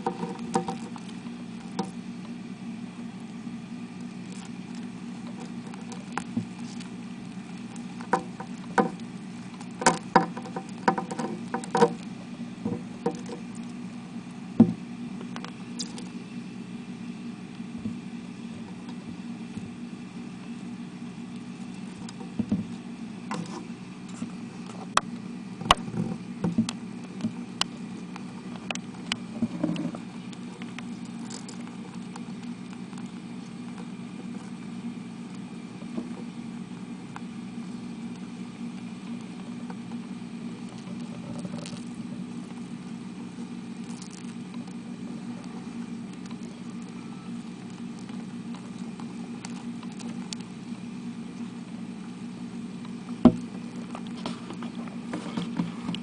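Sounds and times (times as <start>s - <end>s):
beetles scratching and clicking: 0.0s - 2.4s, 3.1s - 14.4s, 15.1s - 16.4s, 20.4s - 56.0s
steady low hum: 0.0s - 56.0s.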